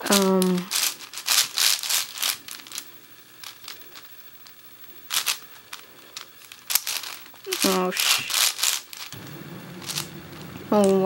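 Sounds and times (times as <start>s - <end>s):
plastic puzzle cube clacking: 0.0s - 11.0s.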